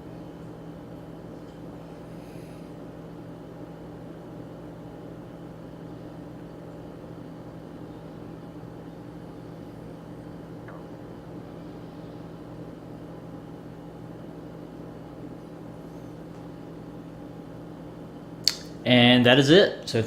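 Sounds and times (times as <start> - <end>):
computer fans humming: 0.0 - 20.0.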